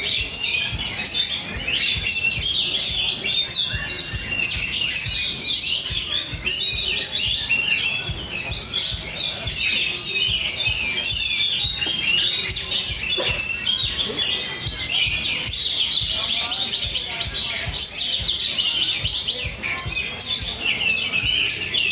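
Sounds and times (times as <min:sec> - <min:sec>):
songbirds chirping and trilling: 0:00.0 - 0:21.9.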